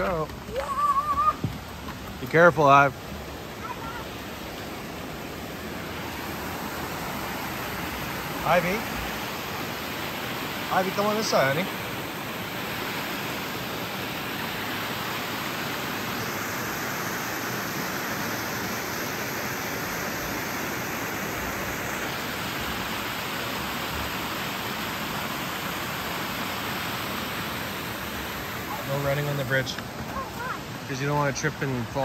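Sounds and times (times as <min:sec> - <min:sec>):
small waterfall rushing: 0:00.0 - 0:32.0.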